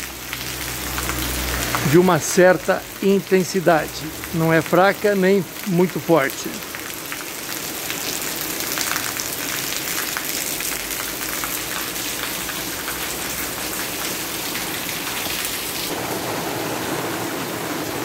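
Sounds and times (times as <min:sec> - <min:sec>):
rain on paving and lawn: 0:00.0 - 0:18.0.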